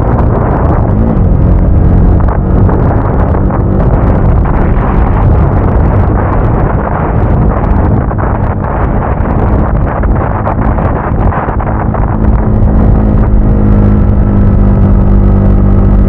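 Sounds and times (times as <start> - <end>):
motorcycle engine running: 0.0 - 16.0
wind buffeting on microphone: 0.0 - 16.0.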